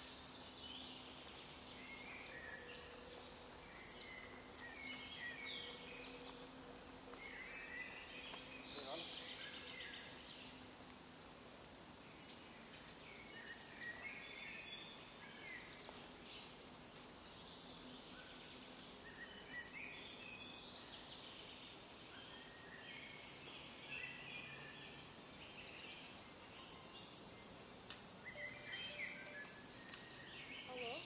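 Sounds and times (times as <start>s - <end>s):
birds chirping and trilling: 0.0s - 10.7s, 12.0s - 31.0s
faint background hiss: 0.0s - 31.0s.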